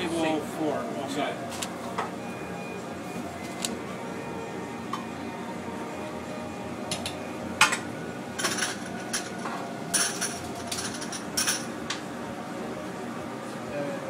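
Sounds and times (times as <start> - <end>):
kitchen equipment hum: 0.0 - 14.0.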